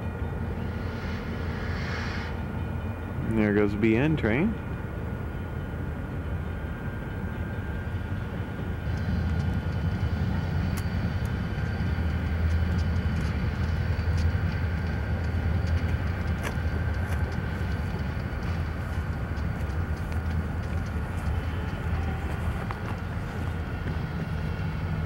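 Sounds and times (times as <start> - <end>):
diesel locomotives rumbling: 0.0 - 25.0.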